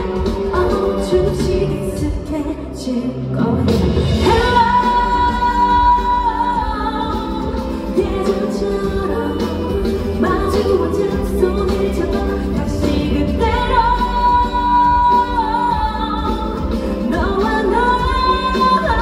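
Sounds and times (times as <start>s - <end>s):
musical accompaniment: 0.0s - 19.0s
woman singing pop song: 0.0s - 19.0s.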